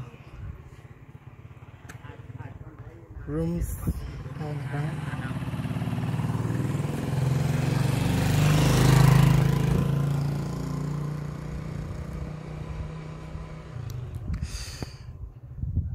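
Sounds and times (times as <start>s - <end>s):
motorcycle engine passing by: 0.0s - 14.3s.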